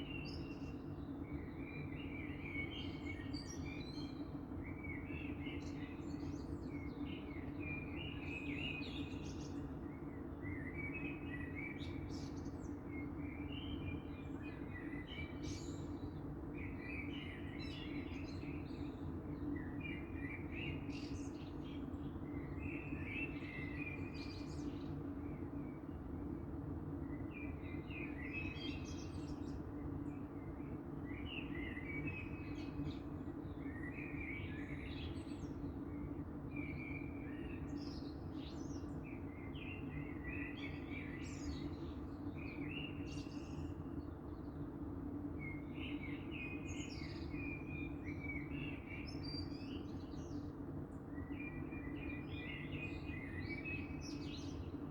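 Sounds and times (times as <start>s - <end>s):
songbirds singing: 0.0s - 54.9s.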